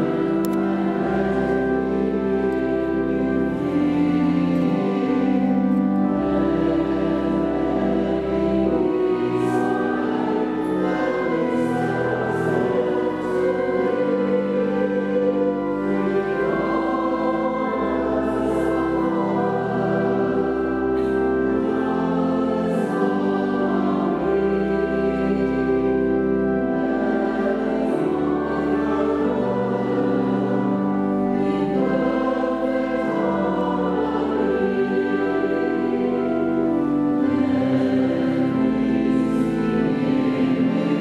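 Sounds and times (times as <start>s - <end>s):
choir singing long held notes: 0.0s - 41.0s.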